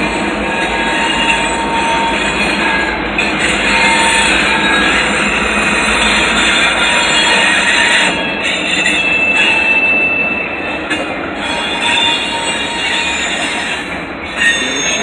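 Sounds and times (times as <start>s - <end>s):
freight train wheels rumbling: 0.0s - 15.0s
high wheel squeal: 0.0s - 15.0s.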